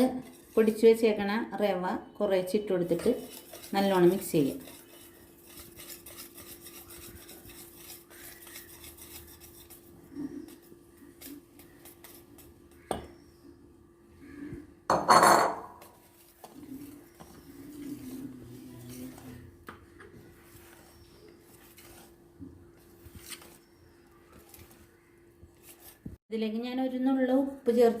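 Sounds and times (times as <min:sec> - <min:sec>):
spoon mixing batter in a bowl: 0:00.0 - 0:14.9, 0:15.8 - 0:26.2.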